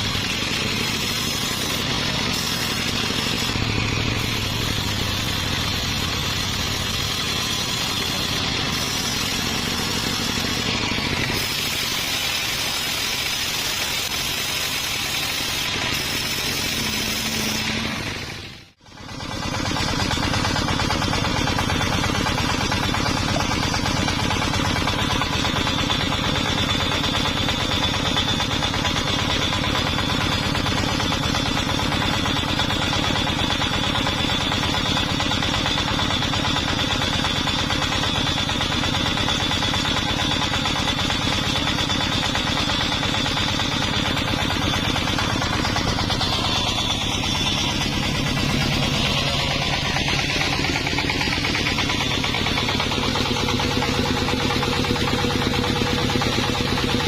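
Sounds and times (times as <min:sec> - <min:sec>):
high steady whine: 0:00.0 - 0:57.0
sawmill engine pulsing: 0:00.0 - 0:57.0.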